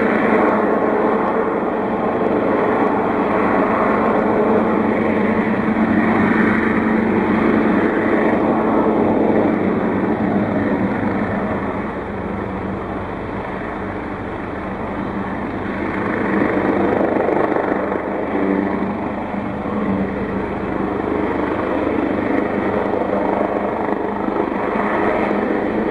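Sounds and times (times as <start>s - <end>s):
helicopter rotor and engine: 0.0s - 25.9s.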